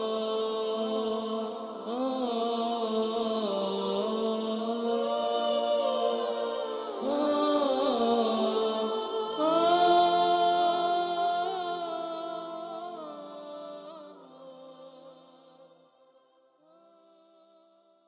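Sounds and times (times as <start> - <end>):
slow vocal chant: 0.0 - 18.0.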